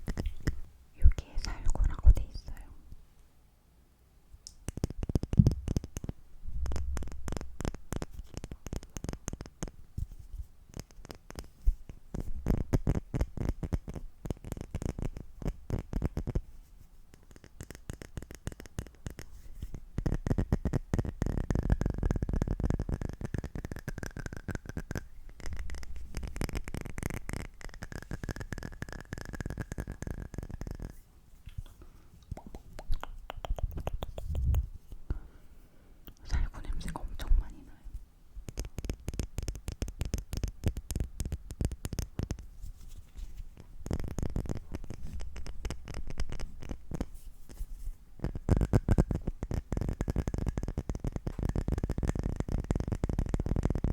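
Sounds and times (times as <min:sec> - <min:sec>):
fast tapping close to microphone: 0:00.0 - 0:02.6, 0:04.5 - 0:35.2, 0:38.4 - 0:53.9.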